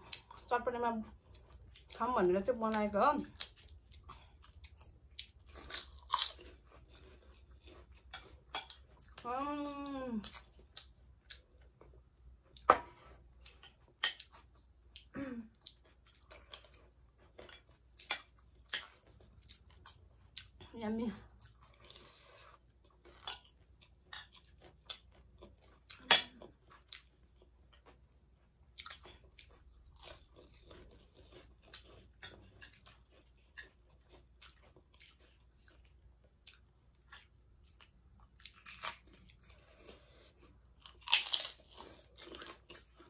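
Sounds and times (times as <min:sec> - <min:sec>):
chewing and crunching snack: 0:00.0 - 0:43.0.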